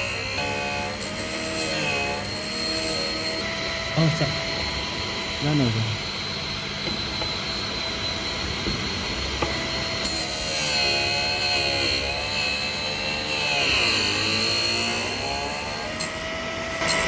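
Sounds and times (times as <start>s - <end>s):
drill bit grinder whining: 0.0s - 17.0s
wavering several-pitched whine: 0.0s - 17.0s.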